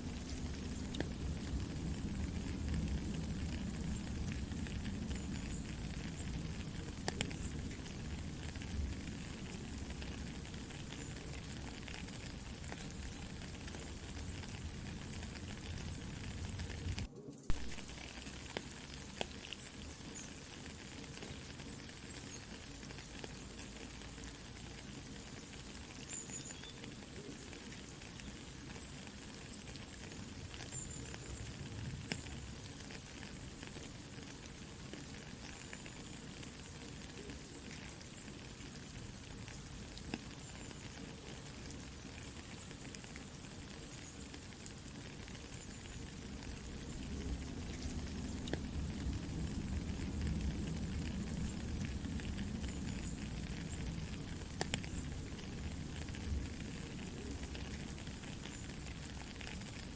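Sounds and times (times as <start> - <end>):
campfire crackling and popping: 0.0 - 59.9
soft rain: 0.0 - 59.9.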